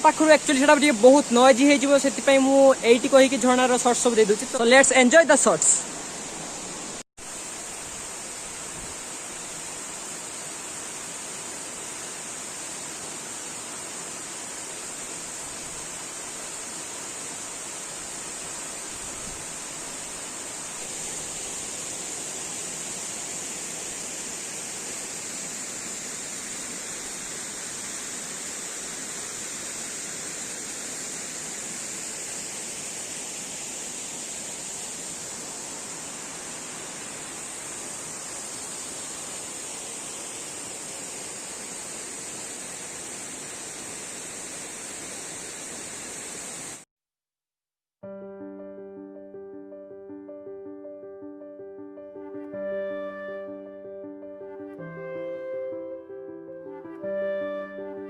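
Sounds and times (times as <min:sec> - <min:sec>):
waterfall rushing: 0:00.0 - 0:46.8
high-pitched hiss: 0:00.0 - 0:46.9.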